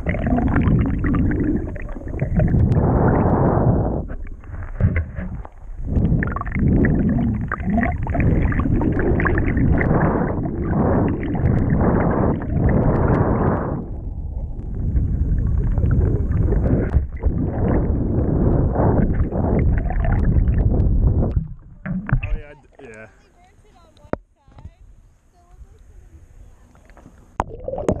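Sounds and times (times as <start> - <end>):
muffled underwater water rushing: 0.0 - 22.9, 26.3 - 28.0.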